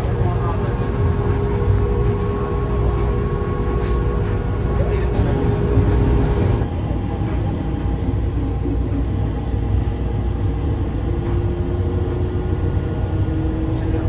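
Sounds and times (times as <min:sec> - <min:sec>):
tram low rumble: 0:00.0 - 0:14.0.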